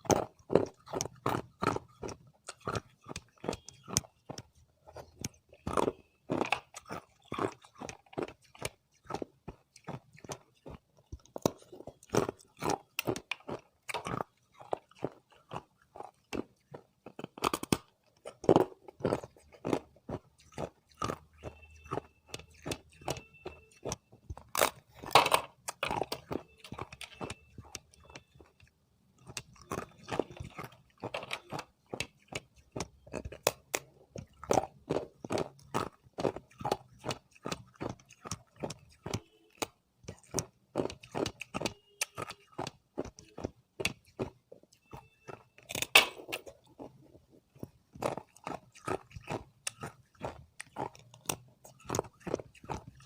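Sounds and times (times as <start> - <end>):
chewing ice crunches: 0.0 - 53.0.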